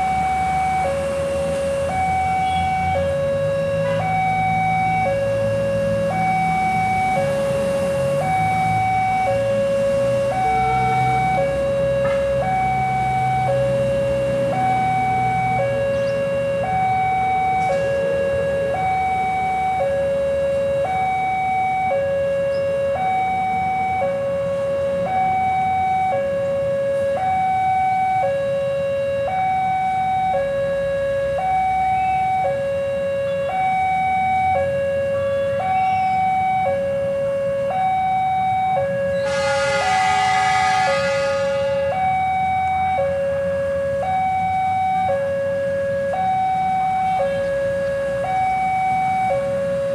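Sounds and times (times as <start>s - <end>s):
level crossing two-tone alarm: 0.0s - 49.9s.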